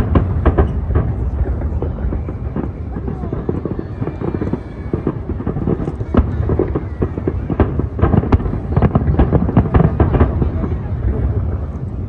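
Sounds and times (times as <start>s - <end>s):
fireworks bangs: 0.0s - 12.0s
fireworks crackling pops: 0.0s - 12.0s.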